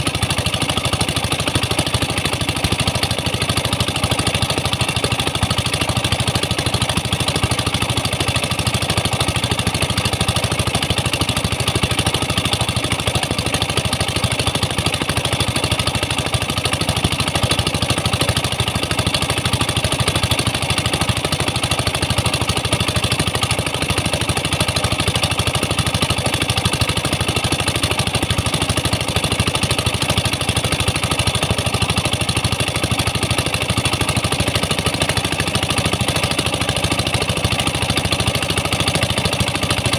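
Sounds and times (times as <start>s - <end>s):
pump engines running: 0.0s - 39.9s.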